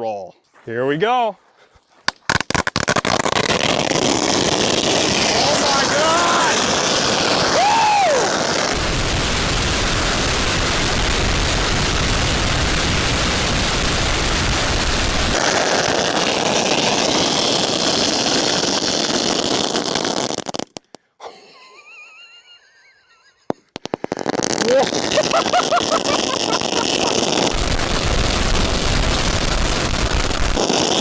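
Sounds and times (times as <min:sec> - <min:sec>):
firecrackers crackling: 0:02.1 - 0:21.0, 0:23.4 - 0:31.0.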